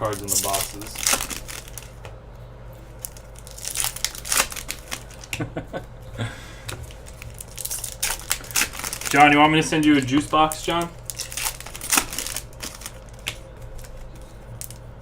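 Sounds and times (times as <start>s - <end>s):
card pack wrappers crinkling and tearing: 0.0s - 2.0s, 2.8s - 5.4s, 6.7s - 15.0s.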